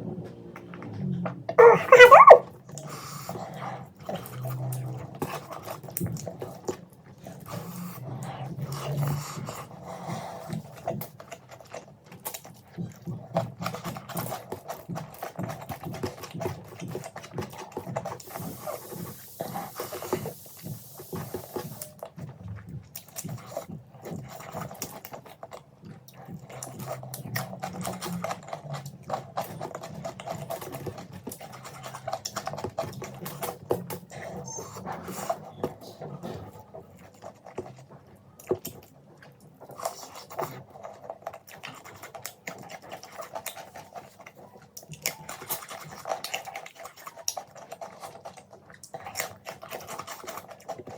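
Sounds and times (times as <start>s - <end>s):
chewing and mouth sounds: 0.0s - 50.9s.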